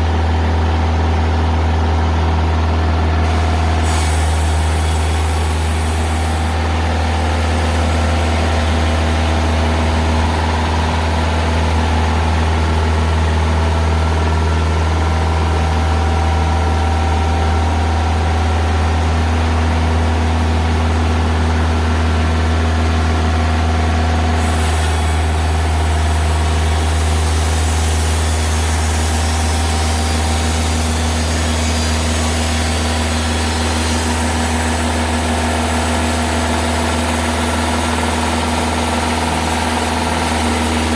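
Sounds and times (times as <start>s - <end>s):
sawmill diesel engine running: 0.0s - 40.9s.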